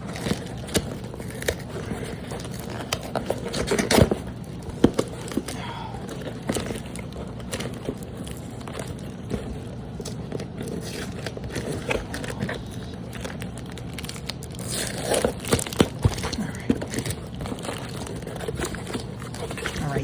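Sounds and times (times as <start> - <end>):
packaging rustle: 0.0 - 20.0
plastic packaging crinkling: 0.0 - 20.0.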